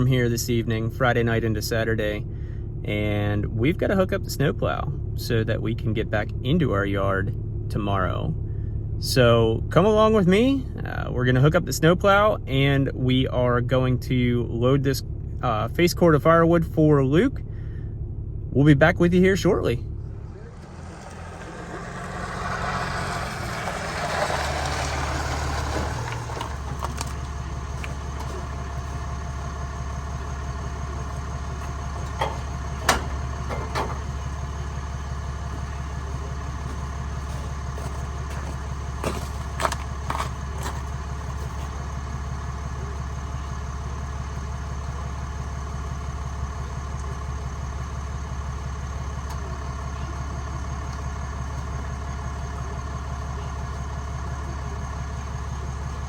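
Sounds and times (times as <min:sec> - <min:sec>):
pickup truck engine idling: 0:00.0 - 0:56.0.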